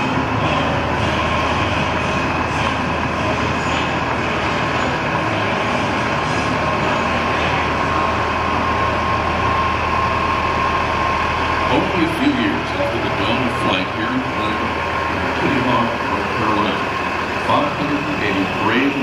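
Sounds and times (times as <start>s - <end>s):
truck diesel engine rumbling past: 0.0s - 19.0s.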